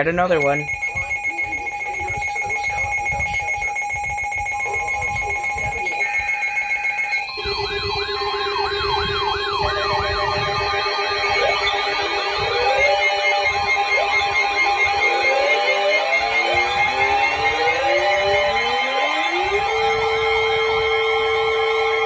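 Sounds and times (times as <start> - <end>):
electronic alarm tones: 0.0 - 22.0
wailing siren tones: 0.0 - 22.0.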